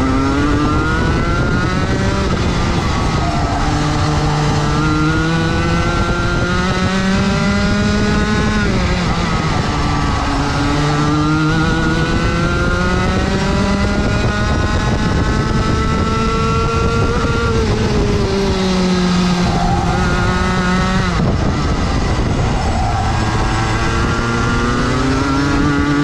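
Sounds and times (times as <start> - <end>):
kart engine at racing speed: 0.0 - 26.0.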